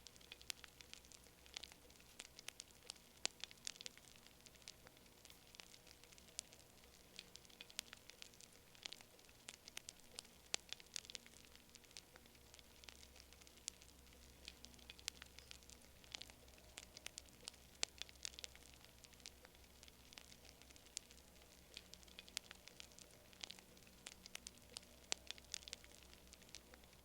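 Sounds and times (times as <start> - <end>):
faint low rumble: 0.0 - 27.0
wood fire crackling: 0.0 - 27.0.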